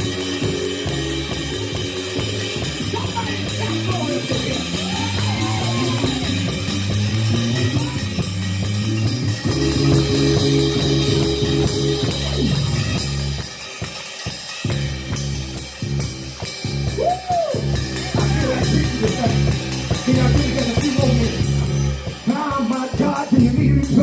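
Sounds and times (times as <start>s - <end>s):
church band playing: 0.0s - 24.0s.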